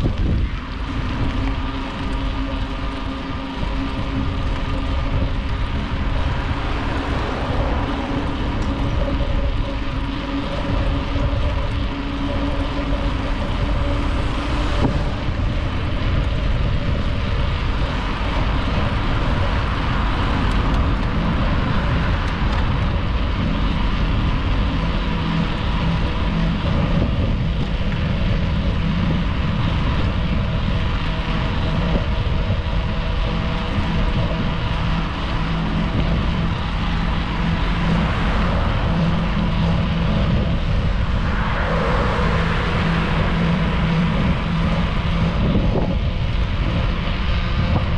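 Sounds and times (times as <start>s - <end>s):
bicycle tyres on asphalt: 0.0s - 47.9s
wind buffeting microphone: 0.0s - 47.9s.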